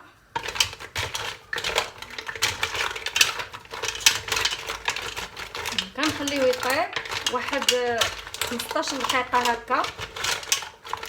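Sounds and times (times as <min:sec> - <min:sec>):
mussel shells clattering in pot: 0:00.2 - 0:11.0.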